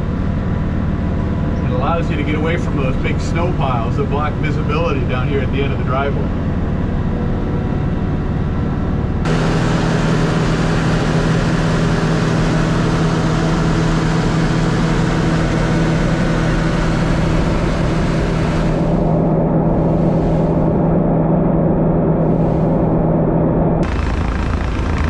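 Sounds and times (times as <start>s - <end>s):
hissy tractor engine drone: 0.0s - 25.0s
tractor diesel engine running: 0.0s - 25.0s.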